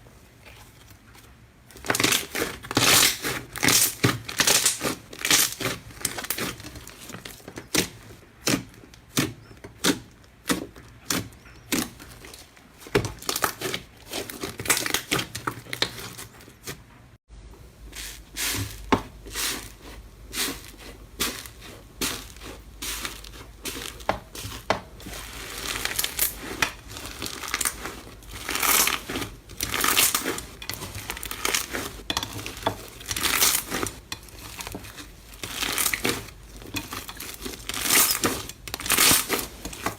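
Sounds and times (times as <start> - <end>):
slime squishes: 0.0 - 17.1, 17.8 - 39.9.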